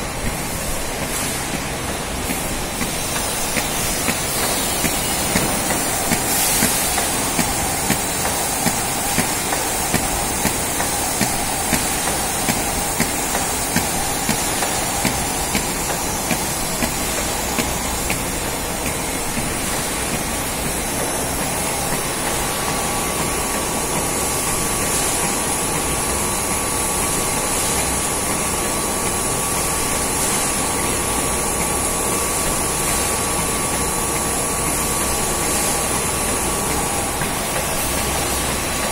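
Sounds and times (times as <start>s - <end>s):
bottling machinery din with hiss: 0.0s - 38.9s.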